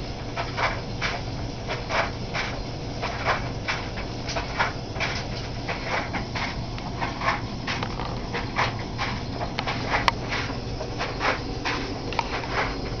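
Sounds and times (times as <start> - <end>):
engine low hum: 0.0 - 13.0
engine puffs: 0.0 - 13.0.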